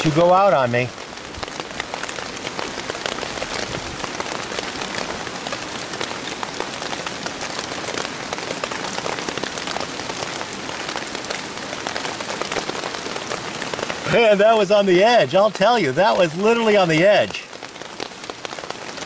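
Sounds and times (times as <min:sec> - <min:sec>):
heavy rain on nylon shelter: 0:00.0 - 0:19.0.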